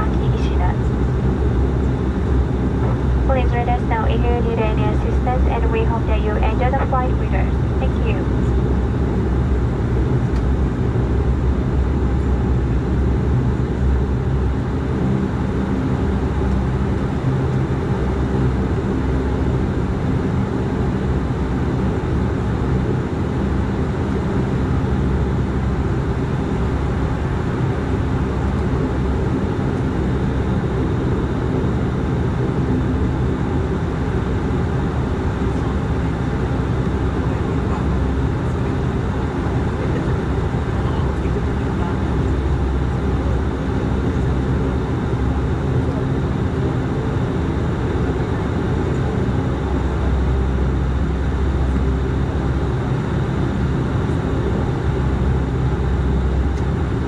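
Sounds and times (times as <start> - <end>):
turboprop engines droning in cabin: 0.0 - 57.0.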